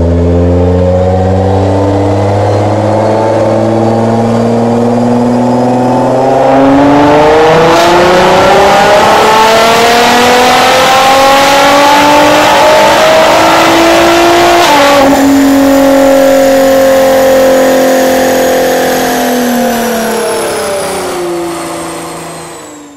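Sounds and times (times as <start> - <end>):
car engine at full throttle: 0.0 - 22.9.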